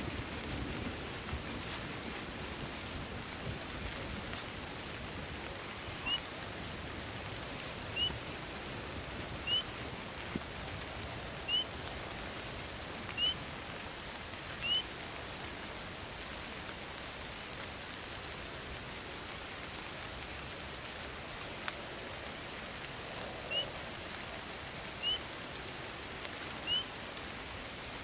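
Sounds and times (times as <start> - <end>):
rain hissing in forest: 0.0 - 28.0.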